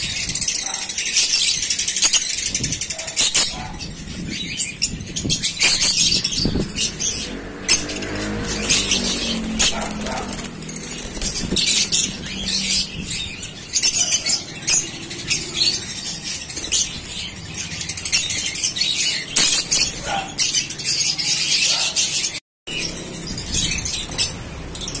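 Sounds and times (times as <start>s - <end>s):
lovebirds chirping: 0.0s - 25.0s.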